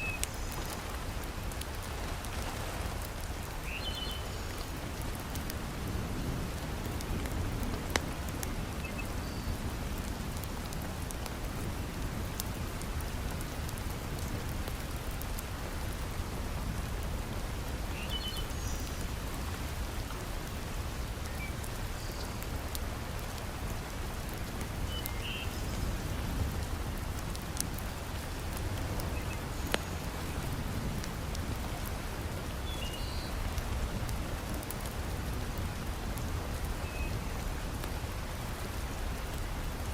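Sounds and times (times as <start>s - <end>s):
heavy rain falling: 0.0s - 39.9s
wood fire crackling: 0.2s - 17.9s, 18.5s - 32.7s, 33.3s - 39.9s.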